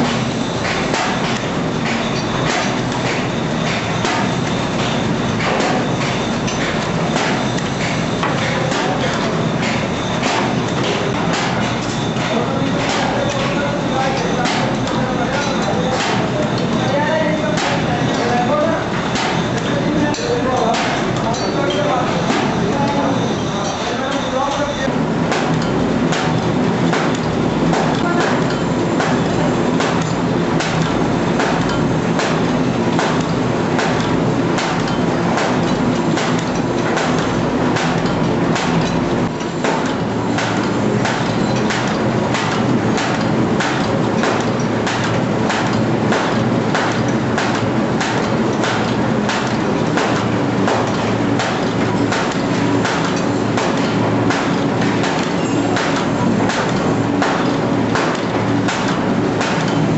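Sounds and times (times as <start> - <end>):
machine mechanical knocks: 0.0 - 59.9
machine running hum: 0.0 - 59.9.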